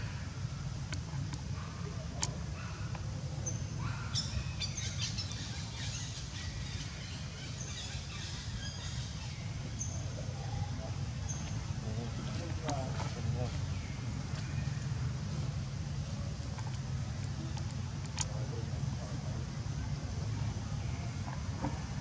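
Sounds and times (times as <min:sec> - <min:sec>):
low outdoor rumble: 0:00.0 - 0:22.0
small birds chirping: 0:00.9 - 0:21.6.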